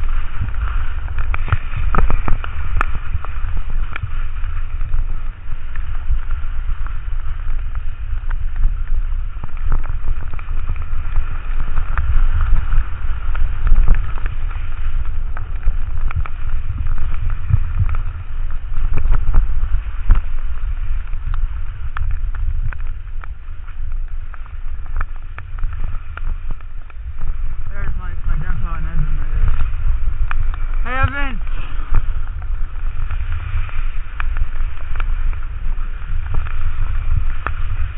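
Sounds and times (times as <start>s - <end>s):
skis hissing over snow: 0.0s - 37.9s
wind buffeting microphone: 0.0s - 37.9s.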